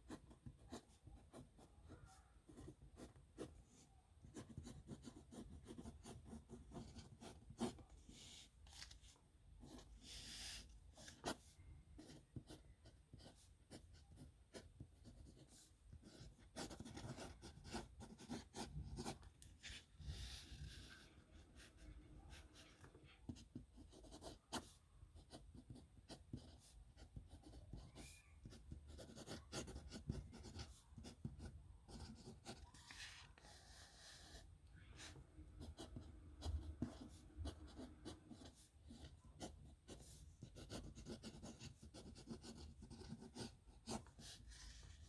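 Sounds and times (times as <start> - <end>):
pen scratching on paper: 4.2 - 8.9, 9.6 - 21.0, 23.3 - 34.4, 35.0 - 45.0.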